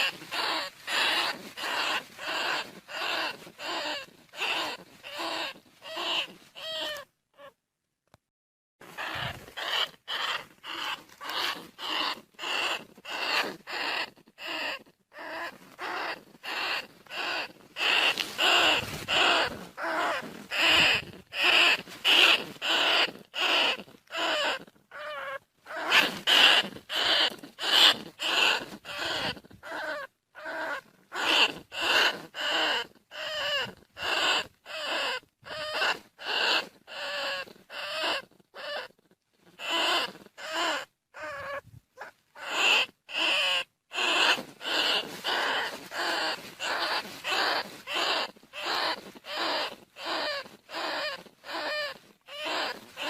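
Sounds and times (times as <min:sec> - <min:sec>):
rat squeaking calls: 0:00.0 - 0:07.6, 0:08.8 - 0:53.0.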